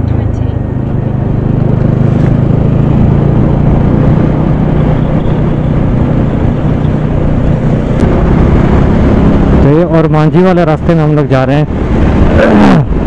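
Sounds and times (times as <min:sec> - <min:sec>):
motorcycle engine cruising: 0:00.0 - 0:13.0
wind rushing: 0:00.7 - 0:13.0.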